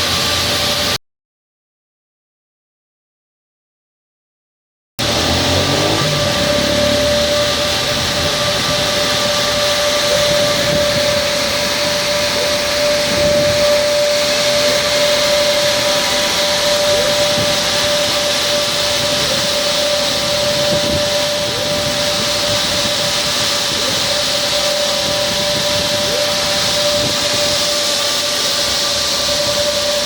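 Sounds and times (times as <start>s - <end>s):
carpet washing machine running: 0.0s - 1.0s, 5.0s - 30.0s.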